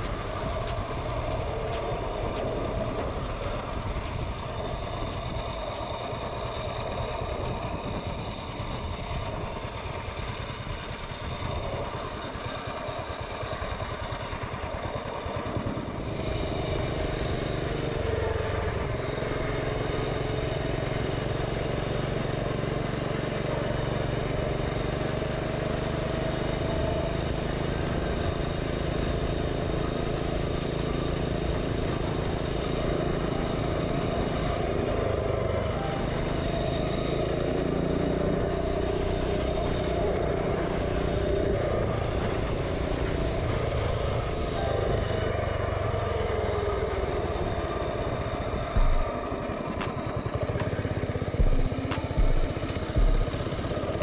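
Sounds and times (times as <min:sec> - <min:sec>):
small engine accelerating: 0:00.0 - 0:54.0.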